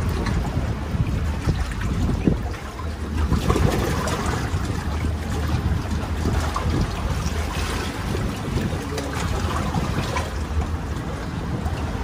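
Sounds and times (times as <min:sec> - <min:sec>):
sea water sloshing against rocks: 0:00.0 - 0:12.0
wind rumbling on microphone: 0:00.0 - 0:12.0.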